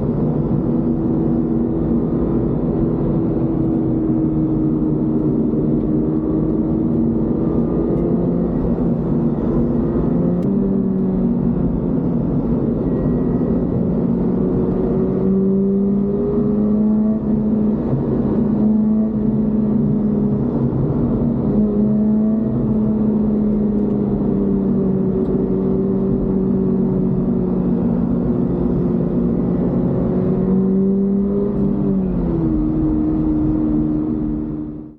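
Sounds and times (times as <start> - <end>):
car engine driving: 0.0 - 34.9.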